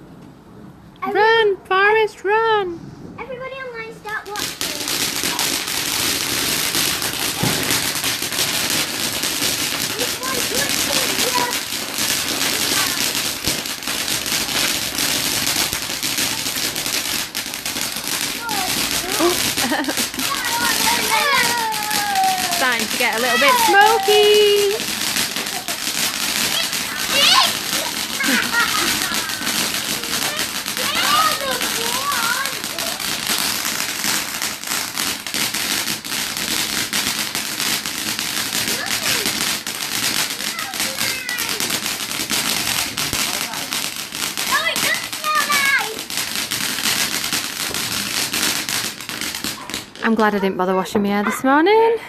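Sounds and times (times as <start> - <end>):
firework fizzing and crackling: 3.0 - 52.0.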